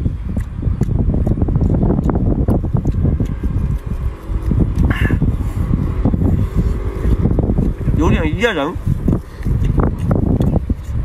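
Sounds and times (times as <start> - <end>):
close-up chewing: 0.0 - 11.0
wind buffeting microphone: 0.0 - 11.0.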